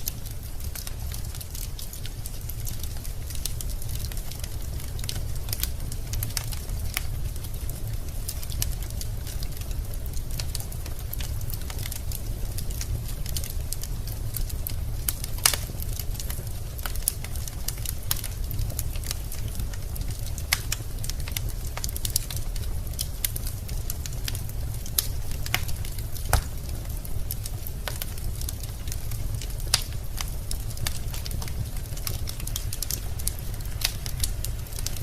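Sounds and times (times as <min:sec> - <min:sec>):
logs crackling and popping: 0:00.0 - 0:35.0
low rumble of flames: 0:00.0 - 0:35.0.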